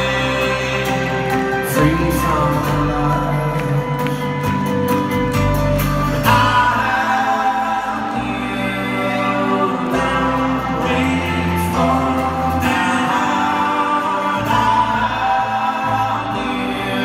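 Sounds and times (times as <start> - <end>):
folk-rock band playing live: 0.0 - 17.0
person singing: 0.0 - 17.0
upright bass: 0.0 - 17.0.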